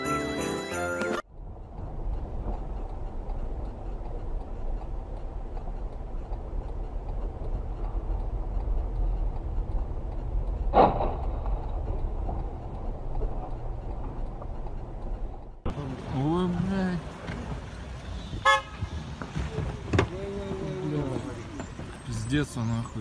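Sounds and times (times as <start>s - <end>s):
car engine and tyres rumbling: 1.2s - 23.0s.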